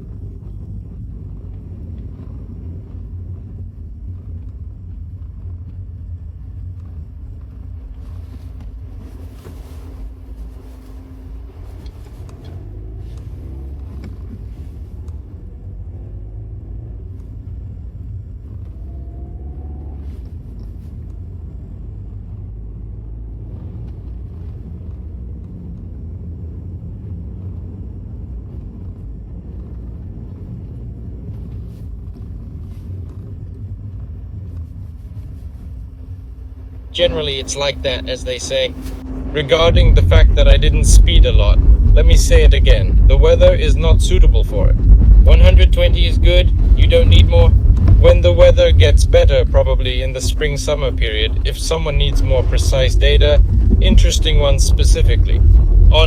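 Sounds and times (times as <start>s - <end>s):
car engine rumble from cabin: 0.0s - 56.0s
tyre and road noise: 0.0s - 56.0s.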